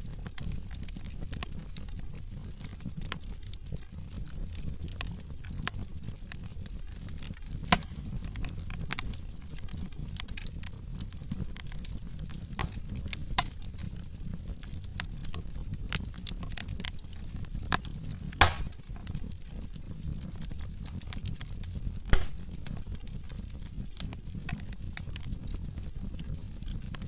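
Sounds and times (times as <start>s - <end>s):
fire flames rumbling: 0.0s - 27.0s
logs crackling and popping: 0.0s - 27.0s.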